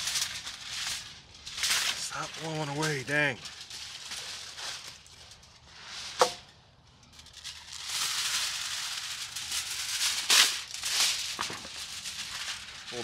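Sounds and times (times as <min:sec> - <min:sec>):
foil ripping: 0:00.0 - 0:06.4, 0:07.2 - 0:13.0
aluminium foil crinkling: 0:00.0 - 0:13.0.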